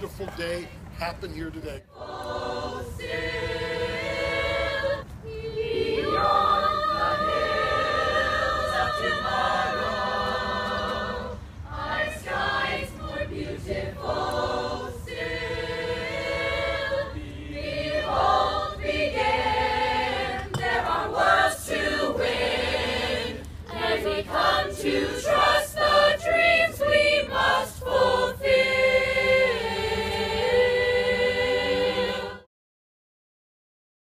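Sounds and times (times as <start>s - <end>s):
choir singing held chords: 1.9s - 32.5s.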